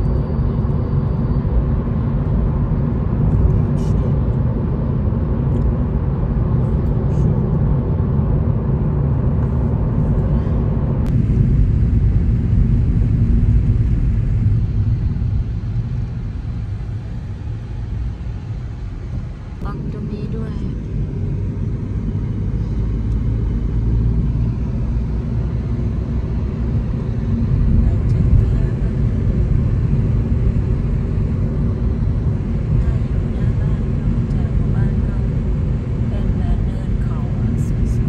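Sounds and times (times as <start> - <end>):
car cabin road rumble: 0.0 - 38.0.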